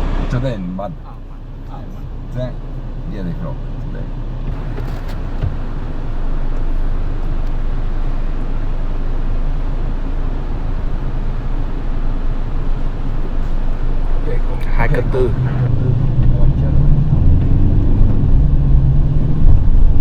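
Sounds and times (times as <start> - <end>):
pickup engine hum: 0.0 - 20.0
rumbling tyre and road noise: 0.0 - 20.0.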